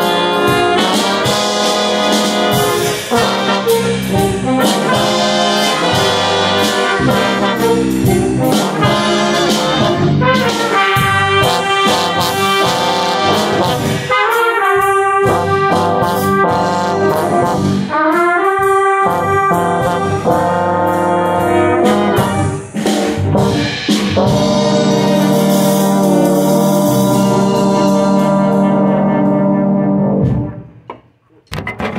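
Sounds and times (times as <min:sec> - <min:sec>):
jazz brass section playing: 0:00.0 - 0:30.7
trombone playing: 0:00.0 - 0:30.7.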